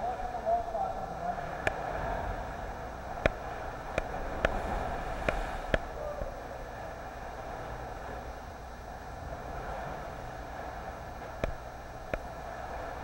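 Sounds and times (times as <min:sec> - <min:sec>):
sea water sloshing and lapping: 0:01.4 - 0:13.0.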